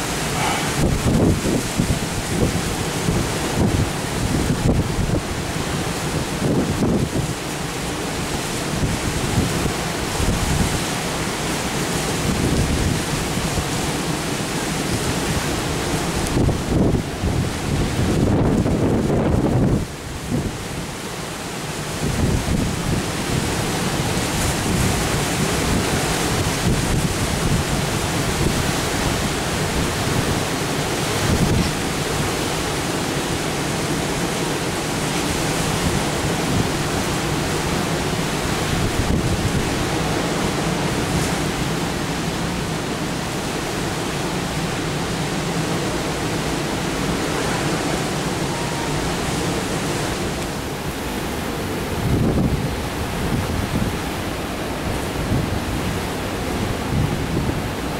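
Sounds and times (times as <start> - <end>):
strong wind buffeting microphone: 0.0 - 7.6, 8.2 - 21.1, 21.8 - 57.9
heavy surf breaking: 0.0 - 57.9.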